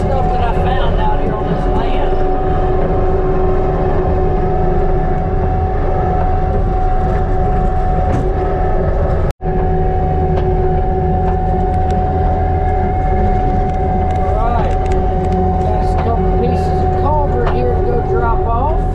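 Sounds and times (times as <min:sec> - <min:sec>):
diesel engine whining and rumbling: 0:00.0 - 0:18.9.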